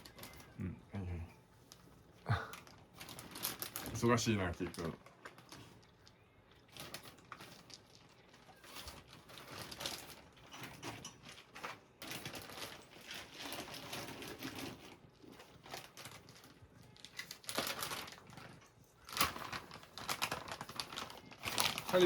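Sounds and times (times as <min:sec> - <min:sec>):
plastic bag crinkling: 0:00.0 - 0:01.1, 0:01.7 - 0:22.0
dry kibble rattling: 0:02.6 - 0:22.0.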